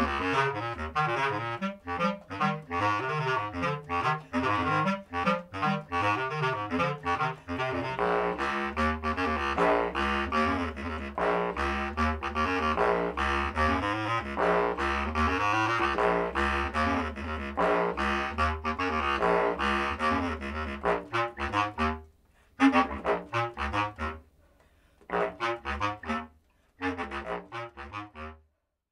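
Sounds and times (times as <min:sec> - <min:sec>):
bass clarinet duet: 0:00.0 - 0:24.4, 0:25.0 - 0:28.5.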